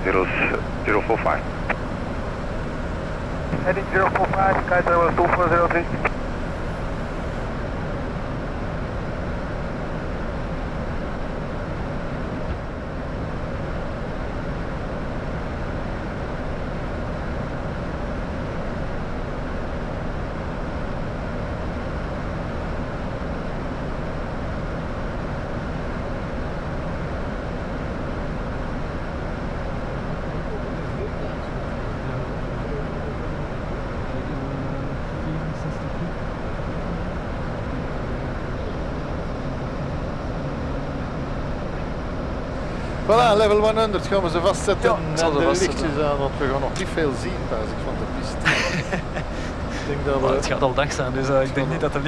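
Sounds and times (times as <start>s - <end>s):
cockpit airflow and engine noise: 0.0s - 52.0s.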